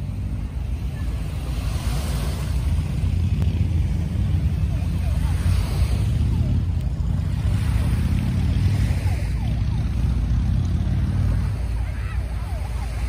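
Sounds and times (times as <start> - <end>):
distant voices: 0.0 - 13.0.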